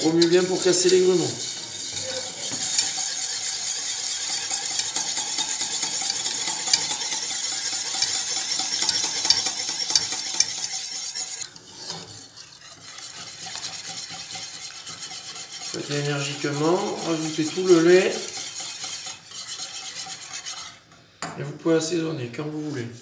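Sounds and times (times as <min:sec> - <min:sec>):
whisk scraping a saucepan: 0:00.0 - 0:23.0.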